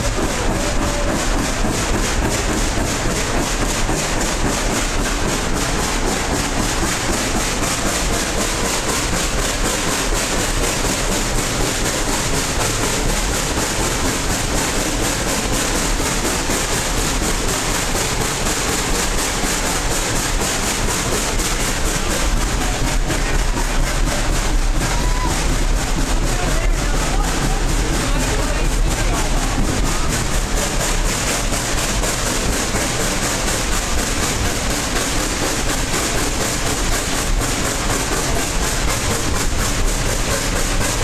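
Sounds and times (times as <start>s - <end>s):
train wheels rattling on rails: 0.0s - 41.0s.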